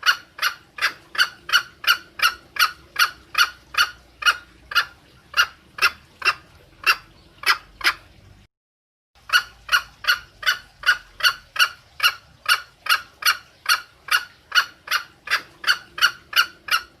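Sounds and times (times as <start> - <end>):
hen clucking rapidly: 0.0 - 8.1, 9.2 - 17.0.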